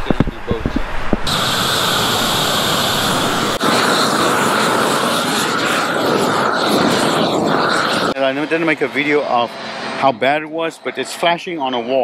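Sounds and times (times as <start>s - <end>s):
torch burning with rushing roar: 0.0s - 11.4s.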